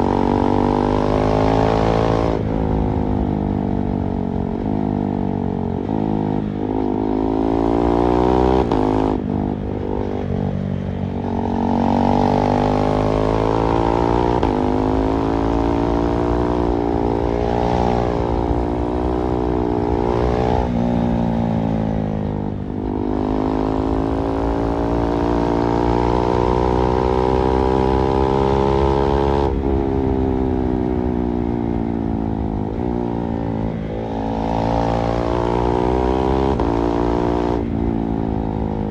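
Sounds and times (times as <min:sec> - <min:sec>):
motorcycle engine revving: 0:00.0 - 0:38.9
wind noise: 0:00.0 - 0:38.9.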